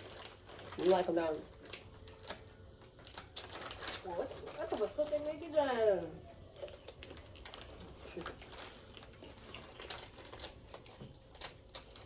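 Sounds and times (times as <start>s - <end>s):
plastic wrapper crackling: 0.0s - 12.0s.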